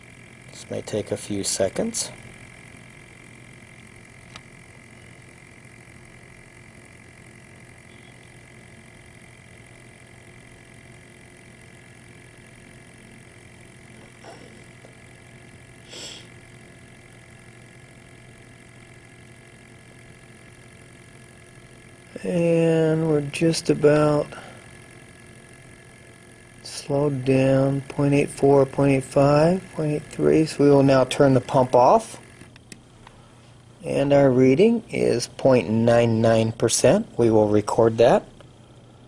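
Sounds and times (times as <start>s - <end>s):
small pump humming: 0.0s - 39.0s.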